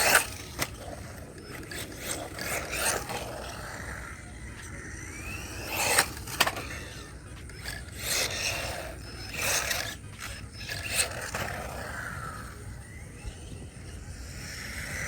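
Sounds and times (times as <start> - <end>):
rc truck tires scraping: 0.0 - 15.0.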